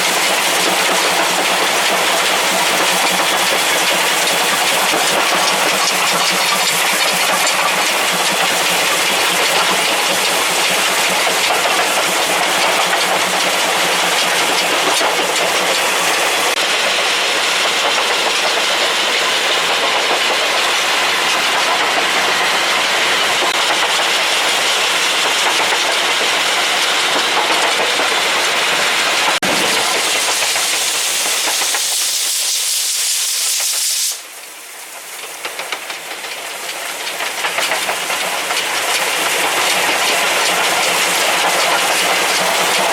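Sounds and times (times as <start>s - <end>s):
steam hissing: 0.0s - 42.9s
train running noise: 0.0s - 42.9s.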